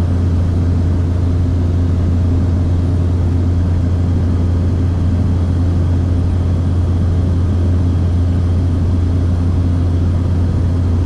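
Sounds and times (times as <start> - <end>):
propeller aircraft cabin drone: 0.0 - 11.0.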